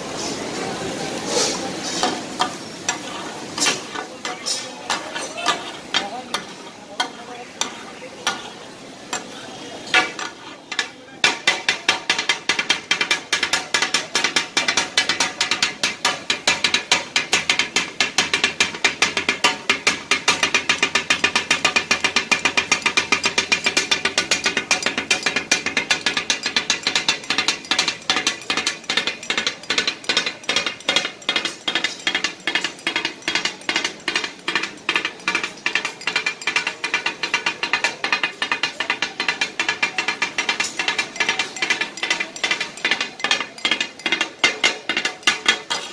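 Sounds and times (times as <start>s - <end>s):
steel blades clattering on griddle: 1.2s - 45.9s.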